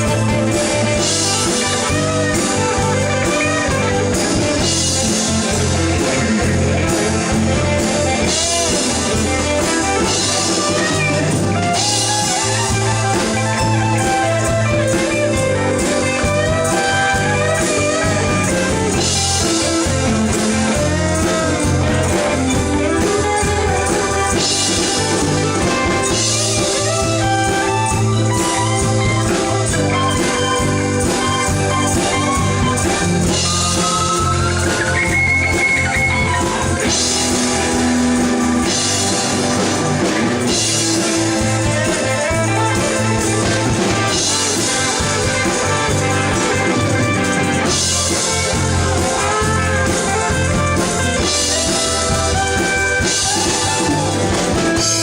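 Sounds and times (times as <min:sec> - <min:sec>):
bass and drums with cymbals: 0:00.0 - 0:55.0
electric guitar solo: 0:00.0 - 0:55.0.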